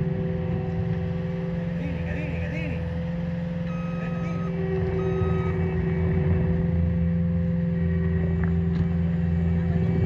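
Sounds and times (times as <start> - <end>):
low rumble: 0.0 - 10.0
warning siren steady tone: 0.0 - 10.0.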